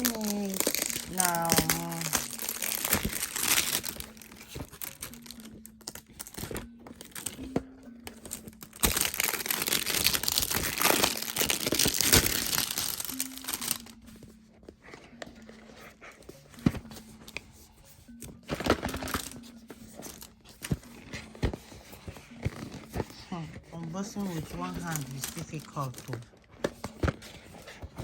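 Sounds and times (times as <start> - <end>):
packaging crinkling and tearing: 0.0 - 14.3, 18.4 - 28.0.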